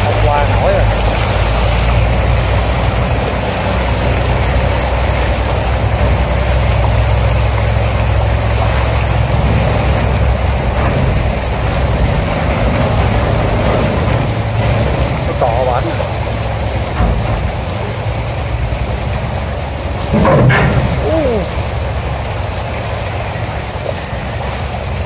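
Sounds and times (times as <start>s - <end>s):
boat engine humming: 0.0s - 25.0s
water churning along hull: 0.0s - 25.0s.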